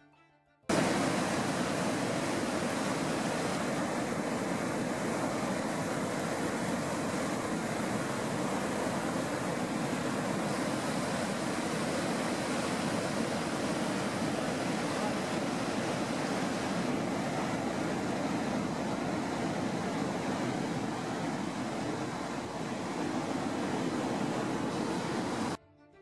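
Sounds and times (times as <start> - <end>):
waterfall rushing: 0.7 - 25.6.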